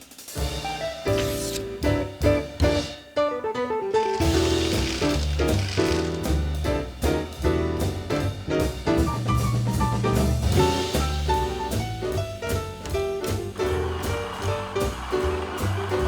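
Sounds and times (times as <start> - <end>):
upbeat jazz music: 0.0 - 16.0.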